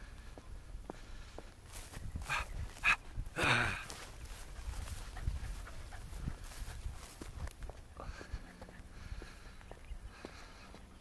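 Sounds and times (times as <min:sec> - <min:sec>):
faint footsteps on concrete: 0:00.0 - 0:11.0.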